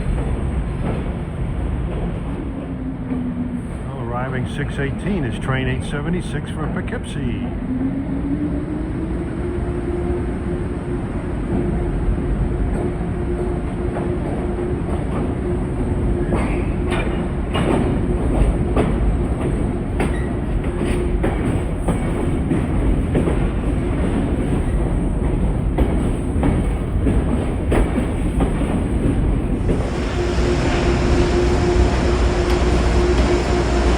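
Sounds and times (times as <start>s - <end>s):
train rumble and hum: 0.0s - 33.9s.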